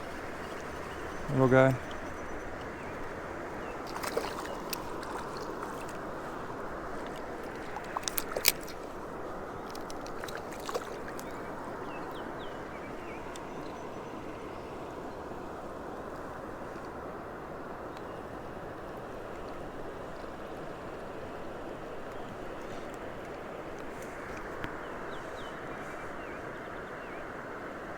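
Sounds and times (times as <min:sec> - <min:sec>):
creek water flowing: 0:00.0 - 0:27.9.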